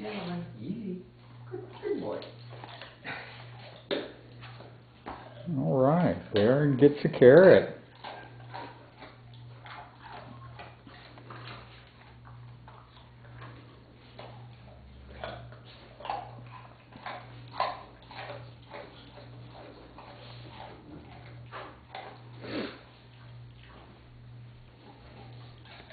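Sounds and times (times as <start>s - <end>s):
dog crunching carrot: 1.2s - 25.9s.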